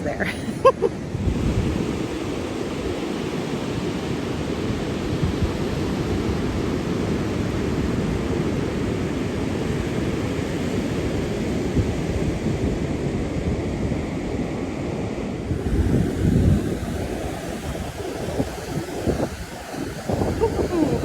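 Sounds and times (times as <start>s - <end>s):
ocean surf rushing: 0.0s - 21.0s
wind on microphone: 0.0s - 21.0s.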